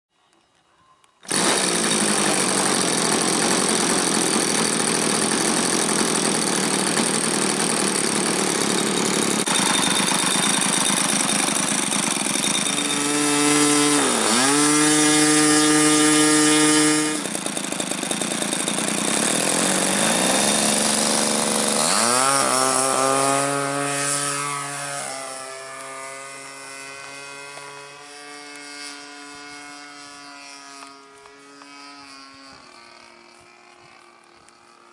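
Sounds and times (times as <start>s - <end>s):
model airplane engine high revs: 1.2s - 34.9s.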